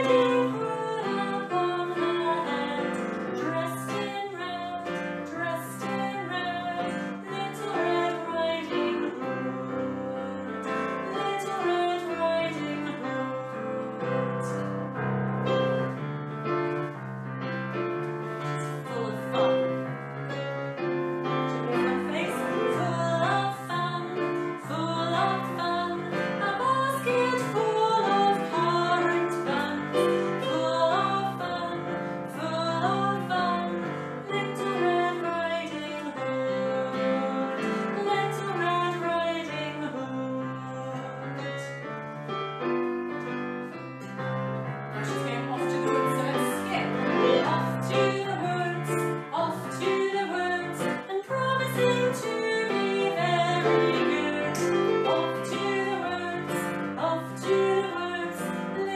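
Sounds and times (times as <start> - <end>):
woman singing: 0.0 - 14.8, 18.4 - 19.8, 21.5 - 41.9, 44.9 - 58.9
digital piano chords: 0.0 - 58.9.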